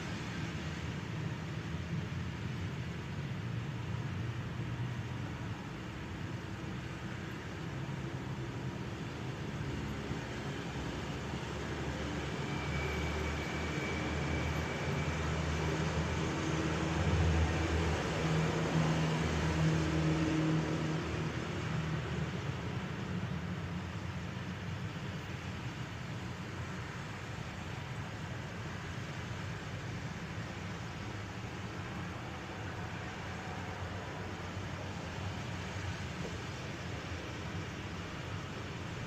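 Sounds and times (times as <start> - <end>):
distant traffic: 0.0 - 39.0.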